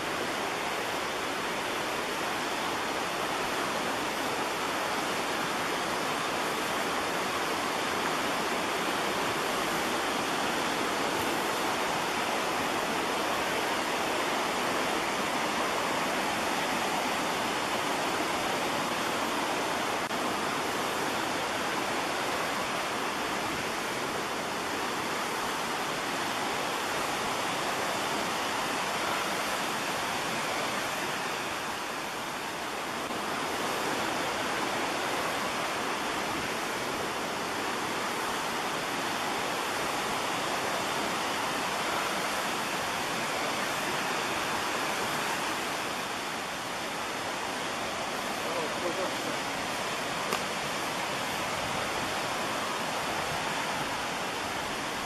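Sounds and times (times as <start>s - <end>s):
creek running over waterfalls: 0.0s - 55.0s.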